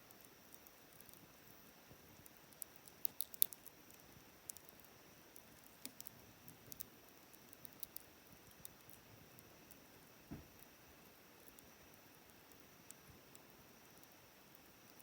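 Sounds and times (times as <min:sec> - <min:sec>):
faint steady hiss: 0:00.0 - 0:15.0
campfire crackling: 0:00.1 - 0:15.0.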